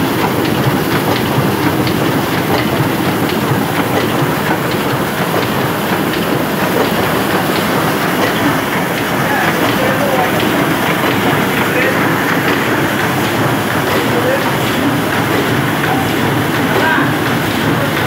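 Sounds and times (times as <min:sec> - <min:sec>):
printing press clatter: 0:00.0 - 0:18.0.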